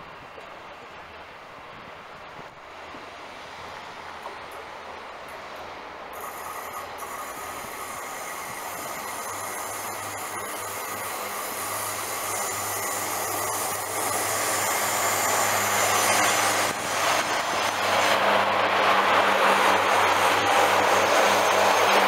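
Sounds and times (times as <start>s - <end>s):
diesel train approaching: 0.1s - 22.0s.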